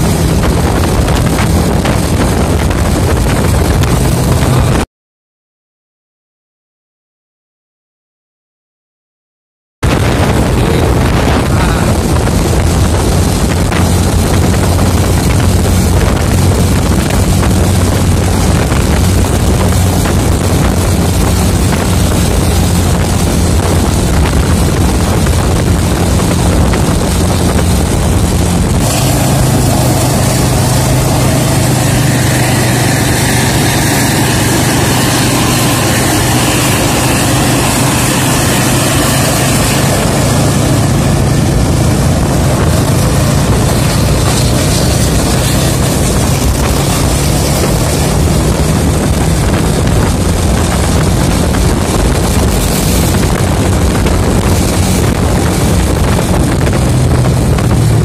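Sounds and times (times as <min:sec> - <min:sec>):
steady engine hum: 0:00.0 - 0:04.8, 0:09.8 - 0:58.0
tyre and wind noise: 0:00.0 - 0:04.9, 0:09.8 - 0:58.0
vehicle engine drone: 0:00.0 - 0:04.9, 0:09.8 - 0:58.0.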